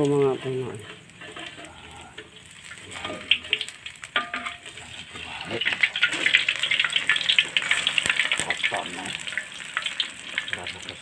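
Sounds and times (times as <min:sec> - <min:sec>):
metal spatula knocking wok: 0:00.0 - 0:10.6
food frying in hot oil: 0:00.0 - 0:11.0.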